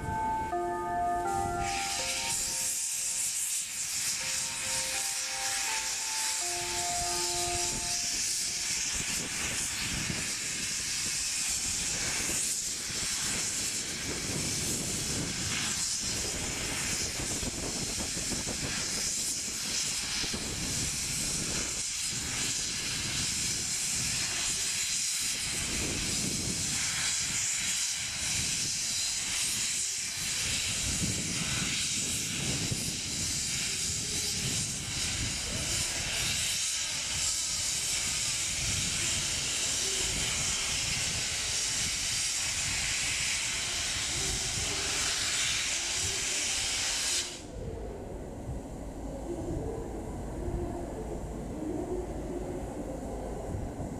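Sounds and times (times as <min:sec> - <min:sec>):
steam hissing: 0:00.0 - 0:53.9.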